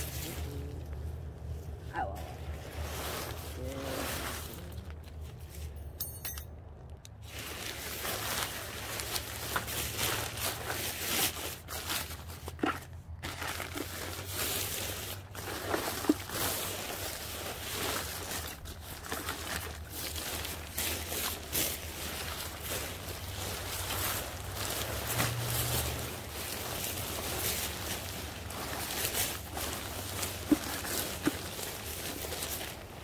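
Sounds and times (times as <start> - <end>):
nylon fabric crinkling and rustling: 0.0 - 6.0, 7.0 - 33.0.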